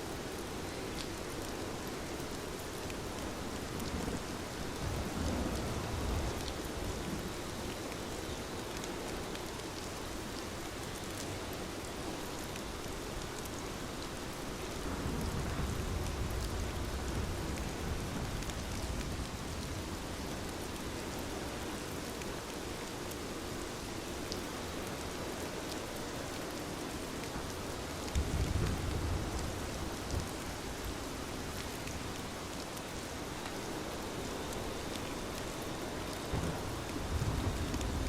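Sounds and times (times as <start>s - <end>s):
rain pattering on a window: 0.0s - 38.0s.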